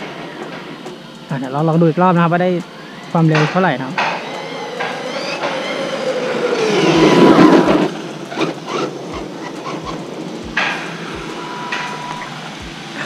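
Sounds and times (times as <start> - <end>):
rc truck motor and tyres rushing: 0.0 - 13.0.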